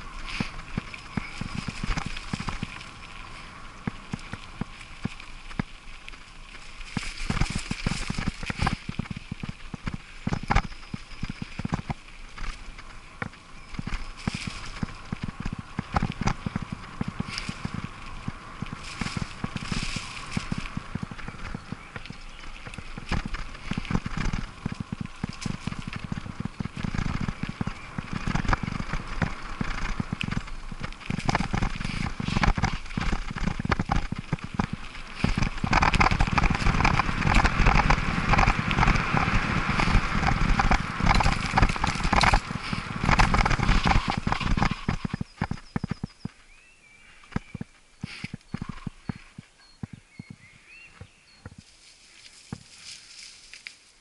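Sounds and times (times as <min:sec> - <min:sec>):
bicycle rattling and clattering: 0:00.0 - 0:46.4
tyre rumble: 0:00.0 - 0:46.4
wind noise: 0:00.0 - 0:54.0.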